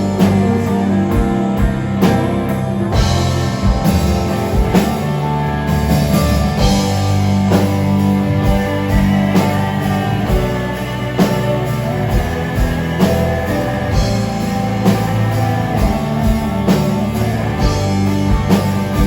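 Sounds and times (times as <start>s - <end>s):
bass guitar: 0.0s - 19.0s
drum kit hits: 0.0s - 19.0s
electric guitar: 0.0s - 19.0s.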